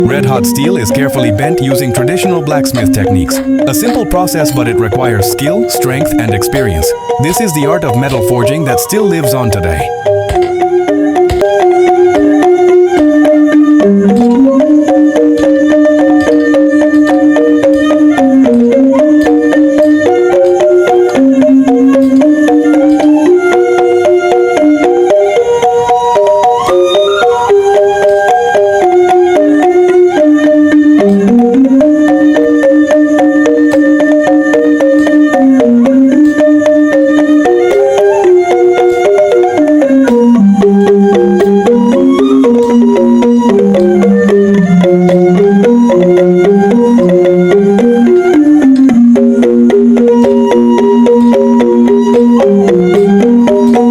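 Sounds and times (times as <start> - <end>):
background music with percussion: 0.0 - 53.9.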